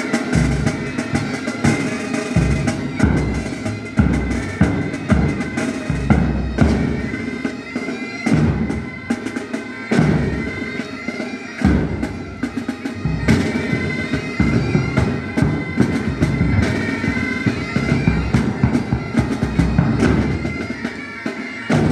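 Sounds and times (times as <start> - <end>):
bagpipes playing melody: 0.0 - 21.9
drums beating: 0.0 - 21.9.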